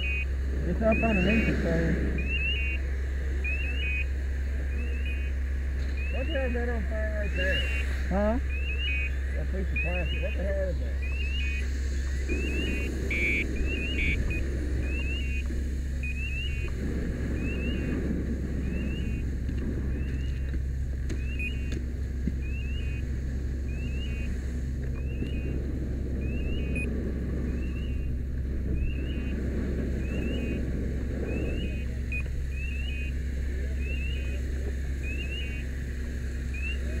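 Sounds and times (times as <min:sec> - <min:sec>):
engine low rumble: 0:00.0 - 0:37.0.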